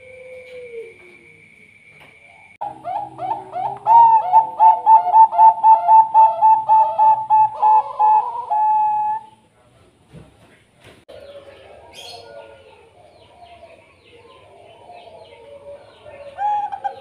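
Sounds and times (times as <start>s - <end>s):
dove cooing song: 0.0s - 1.4s, 2.3s - 9.4s, 11.1s - 17.0s.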